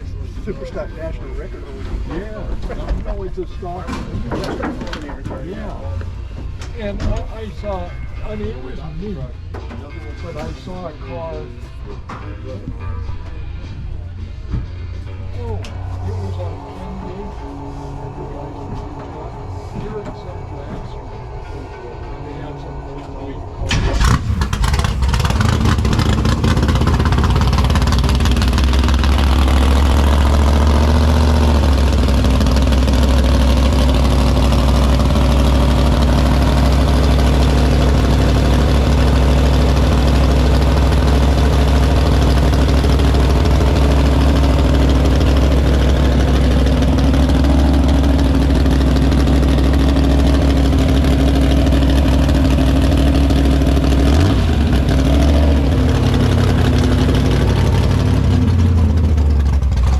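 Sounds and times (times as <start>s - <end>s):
car engine idling: 4.9s - 59.9s.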